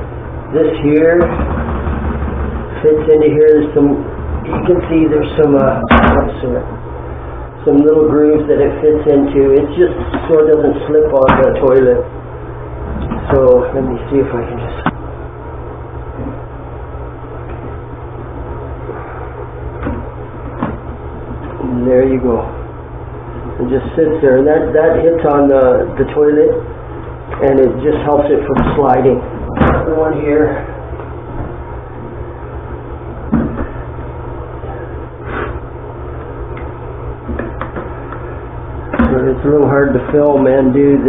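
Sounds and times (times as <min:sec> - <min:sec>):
steady low hum: 0:00.0 - 0:41.0
steady low rumble: 0:00.0 - 0:41.0.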